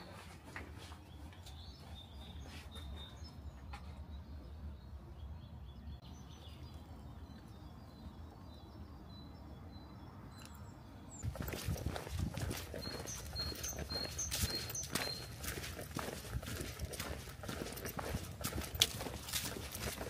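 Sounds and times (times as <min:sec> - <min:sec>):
faint bird chirps: 0:00.8 - 0:17.1.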